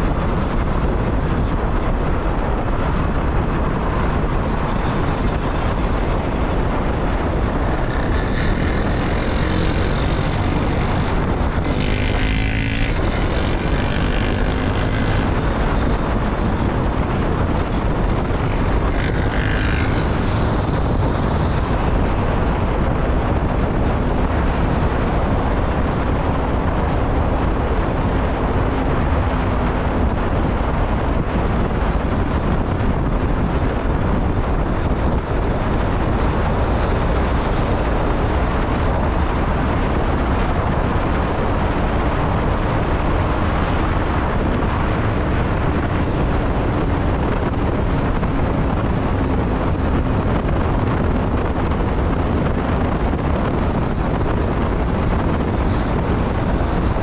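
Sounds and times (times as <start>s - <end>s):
faint engine hum: 0.0s - 57.0s
road and wind noise: 0.0s - 57.0s.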